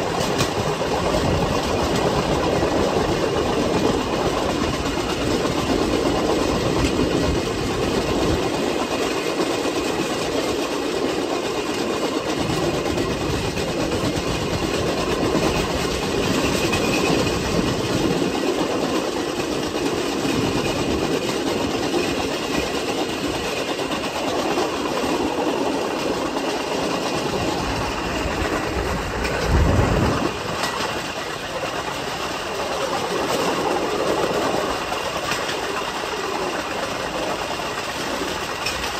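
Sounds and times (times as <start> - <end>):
clacks over rail joints: 0.0 - 38.9
steel wheels rolling on rails: 0.0 - 38.9.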